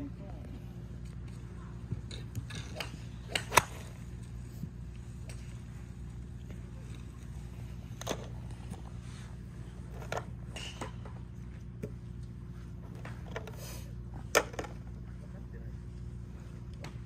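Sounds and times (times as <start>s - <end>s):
steady low hum: 0.0s - 17.0s
golf clubs striking balls: 1.4s - 15.2s.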